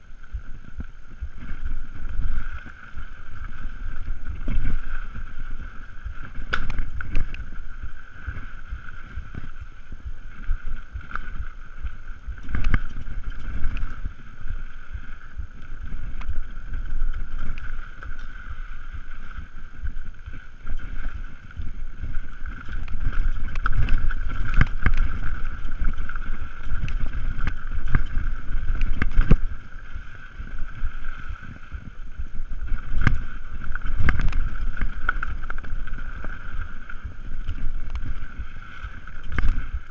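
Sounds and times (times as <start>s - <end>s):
bike rattling over bumps: 0.0s - 39.9s
wind rushing over microphone: 0.0s - 39.9s.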